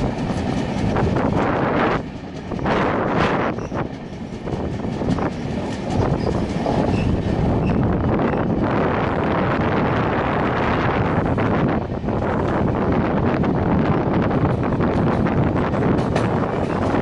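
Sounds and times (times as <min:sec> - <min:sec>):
train wheels rumbling on rails: 0:00.0 - 0:17.0
wind noise on microphone: 0:00.0 - 0:17.0.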